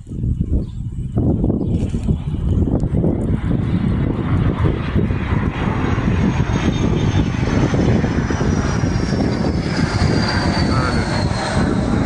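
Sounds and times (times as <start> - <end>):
aircraft engine rumbling: 0.0 - 12.0.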